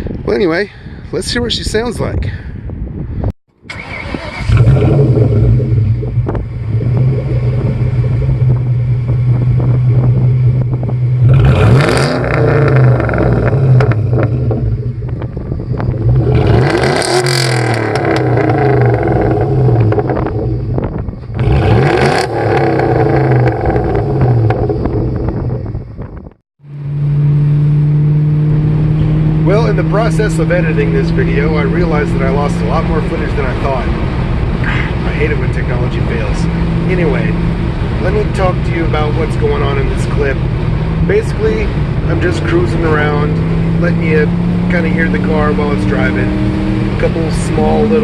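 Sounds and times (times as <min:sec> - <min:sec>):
car engine revving: 0:03.7 - 0:48.0.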